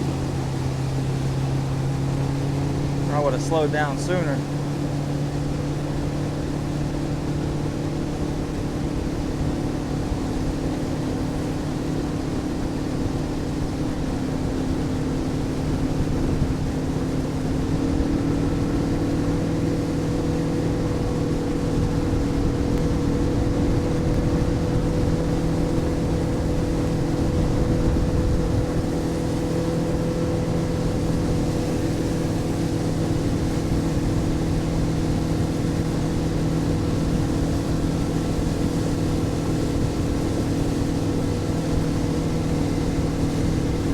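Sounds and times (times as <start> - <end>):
motorboat engine running: 0.0 - 43.9
water rushing: 0.0 - 43.9.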